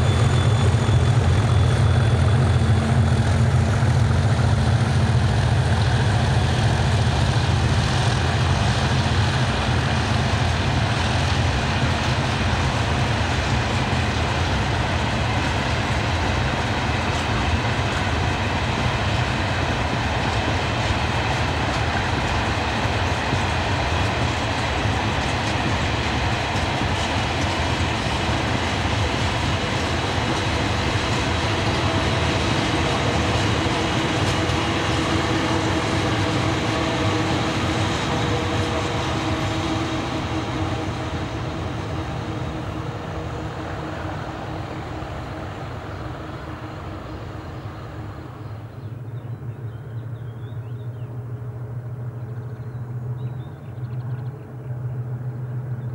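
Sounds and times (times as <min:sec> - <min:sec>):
diesel locomotive engine: 0:00.0 - 0:55.9
train wagons rolling on rails: 0:00.0 - 0:55.9.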